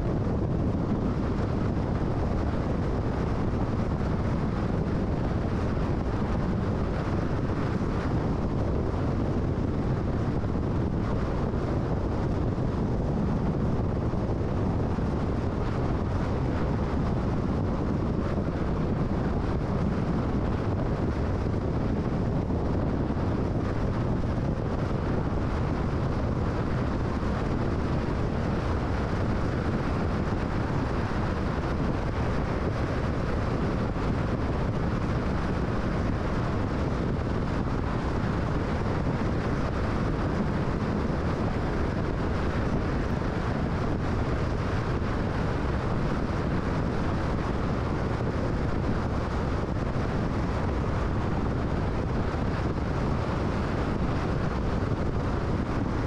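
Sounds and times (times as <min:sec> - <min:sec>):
car road noise at highway speed: 0:00.0 - 0:56.0.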